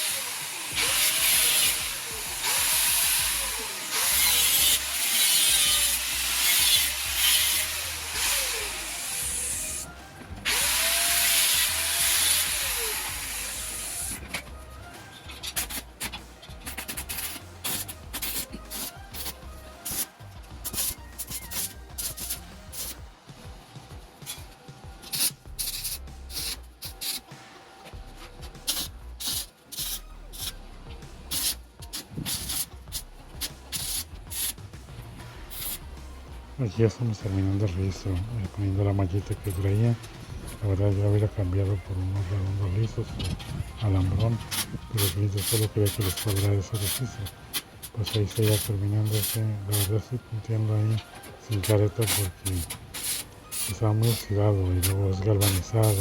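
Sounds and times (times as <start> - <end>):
harsh hissing bursts: 0.0 - 23.0, 24.2 - 27.3, 28.6 - 30.6, 31.3 - 36.4, 37.9 - 56.0.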